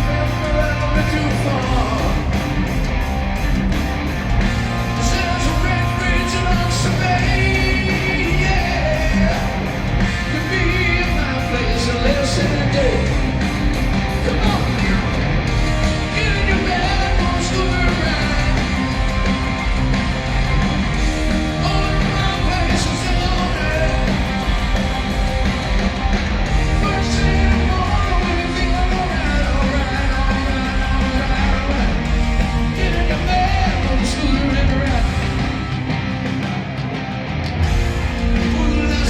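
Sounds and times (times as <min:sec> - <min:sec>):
drums: 0:00.0 - 0:39.0
electric guitars: 0:00.0 - 0:39.0.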